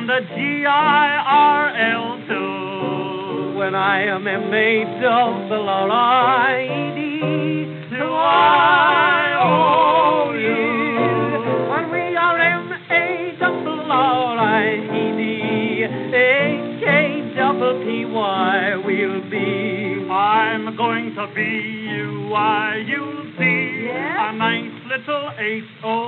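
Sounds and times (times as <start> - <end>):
voices singing with vibrato: 0.0 - 26.0.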